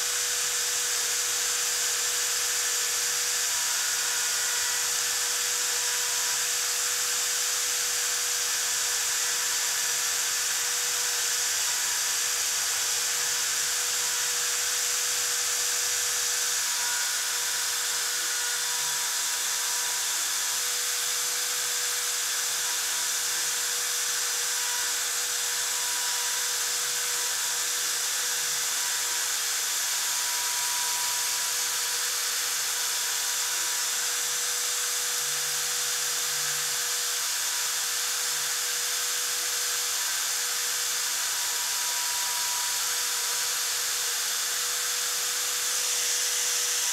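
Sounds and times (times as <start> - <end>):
cnc router spindle whine: 0.0 - 46.9.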